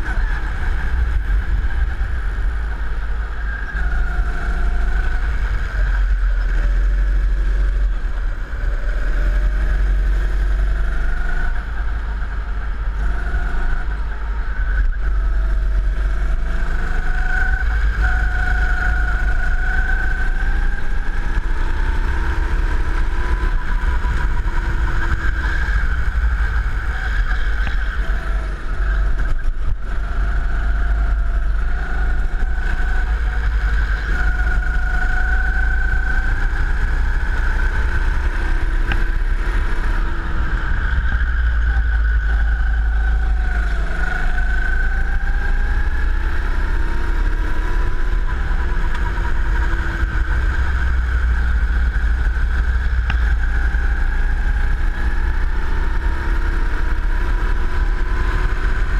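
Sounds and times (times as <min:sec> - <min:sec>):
go-kart engine revving: 0:00.0 - 0:58.9
heavy low rumble: 0:00.0 - 0:58.9.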